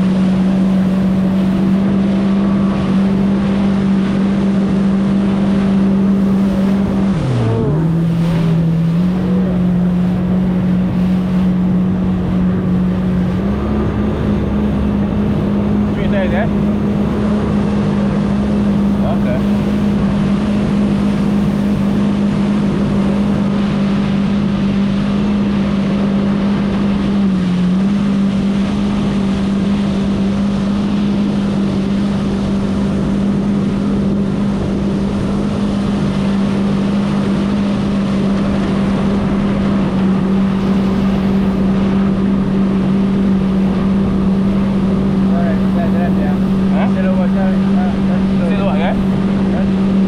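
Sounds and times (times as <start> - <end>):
jet ski engine running: 0.0 - 50.0.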